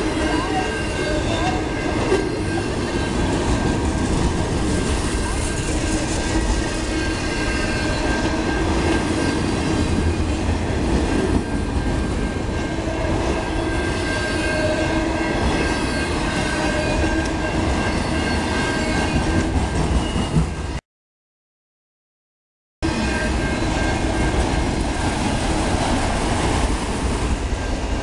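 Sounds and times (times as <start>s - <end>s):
train wheels on rails: 0.0s - 20.8s, 22.8s - 28.0s.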